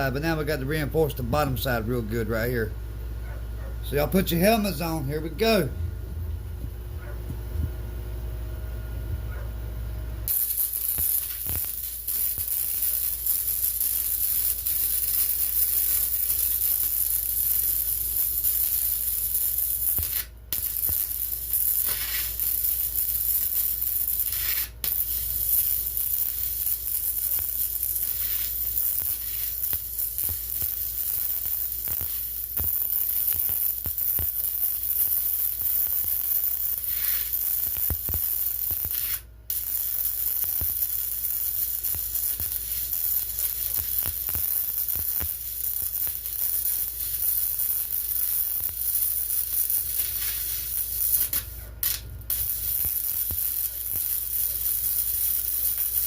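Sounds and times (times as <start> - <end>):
welding arc crackling: 0.0 - 2.2, 10.2 - 56.0.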